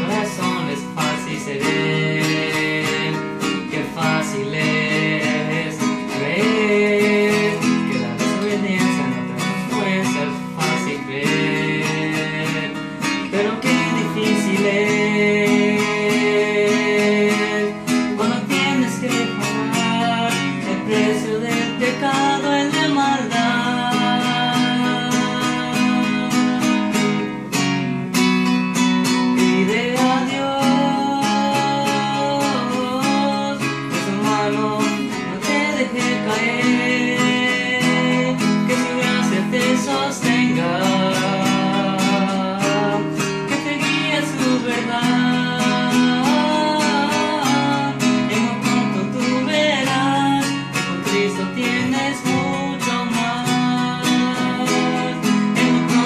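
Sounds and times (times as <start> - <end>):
classical guitar strumming: 0.0 - 56.0
man singing: 0.0 - 56.0.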